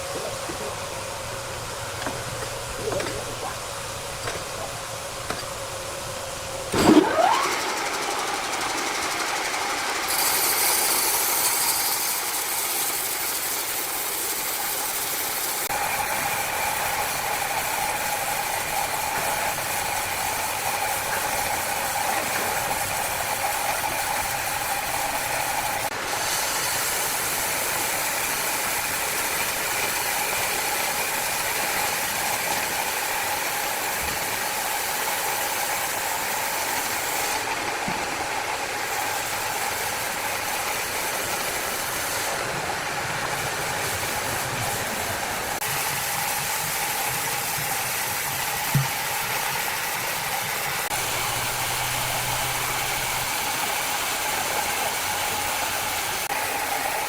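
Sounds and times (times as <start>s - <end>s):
wood saw machinery whining: 0.0s - 57.0s.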